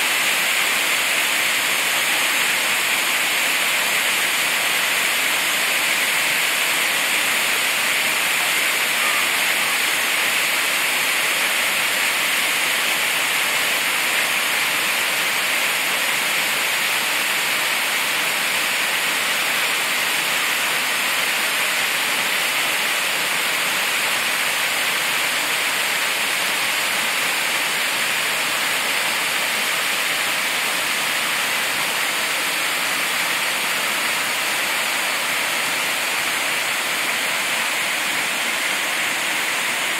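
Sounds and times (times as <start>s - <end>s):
waterfall splashing onto rocks: 0.0s - 39.9s.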